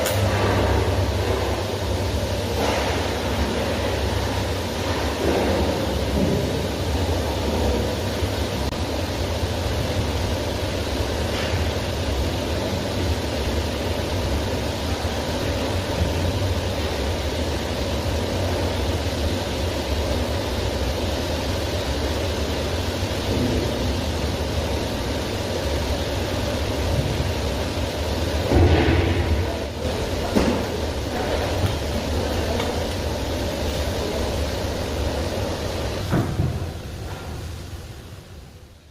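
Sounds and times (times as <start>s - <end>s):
welding arc buzzing hum: 0.0s - 38.9s.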